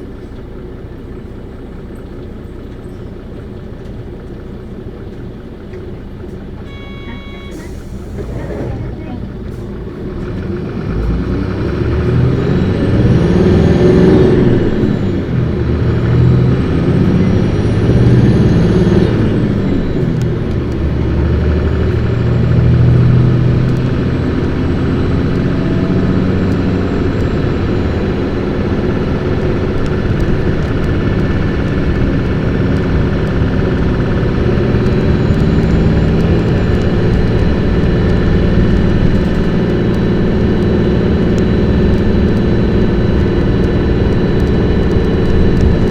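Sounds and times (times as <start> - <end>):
bus diesel engine accelerating: 0.0 - 45.9.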